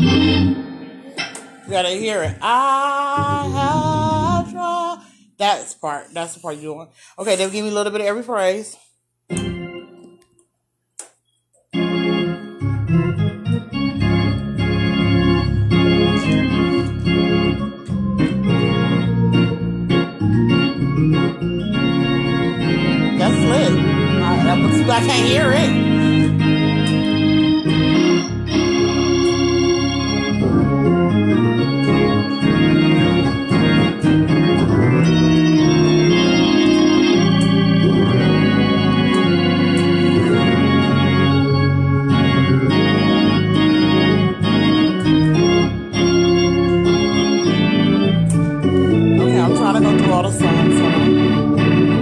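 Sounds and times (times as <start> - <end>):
organ playing chords: 0.0 - 6.5, 9.3 - 10.4, 11.7 - 52.0.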